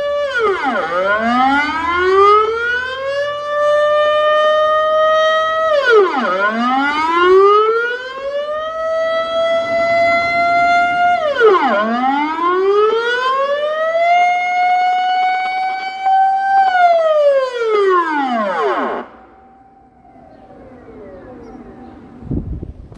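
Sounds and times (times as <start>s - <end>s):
air-raid siren wailing: 0.0s - 22.9s.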